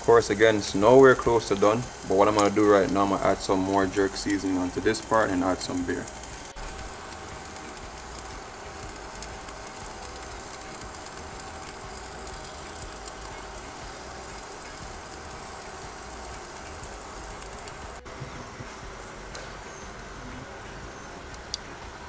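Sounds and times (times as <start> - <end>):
meat sizzling on a charcoal grill: 0.0 - 22.0.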